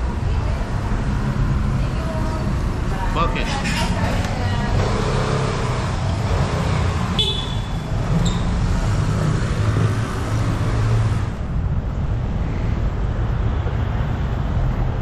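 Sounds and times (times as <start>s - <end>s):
scooter engine rumbling: 0.0s - 13.6s.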